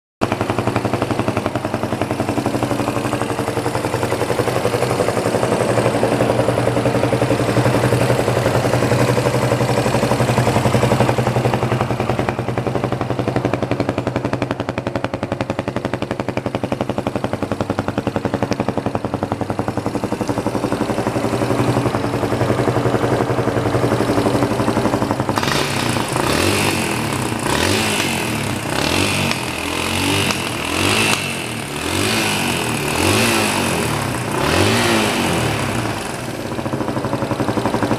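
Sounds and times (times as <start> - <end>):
motorcycle engine idling and revving: 0.2 - 37.9.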